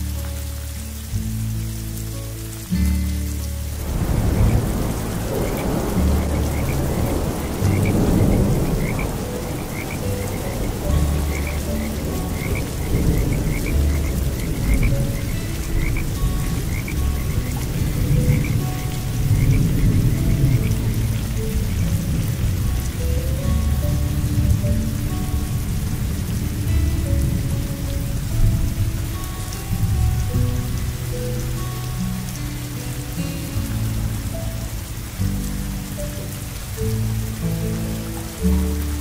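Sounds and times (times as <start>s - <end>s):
rain falling: 0.0s - 39.0s
soft background music: 0.0s - 39.0s
frogs croaking: 3.4s - 39.0s.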